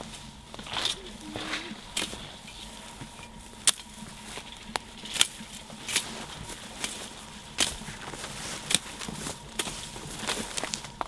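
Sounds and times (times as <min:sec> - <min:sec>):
footsteps crunching through dry leaves: 0:00.0 - 0:11.0.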